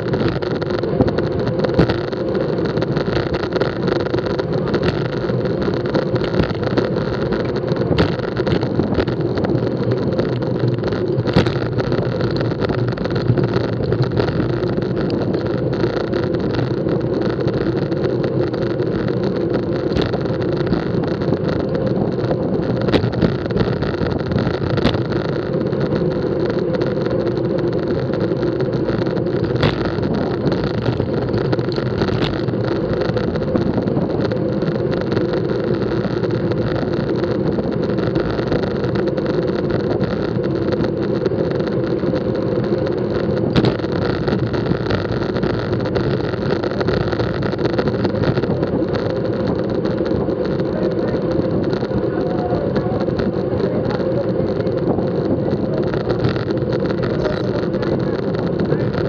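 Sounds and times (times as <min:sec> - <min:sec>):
bicycle road rumble: 0:00.0 - 0:59.0.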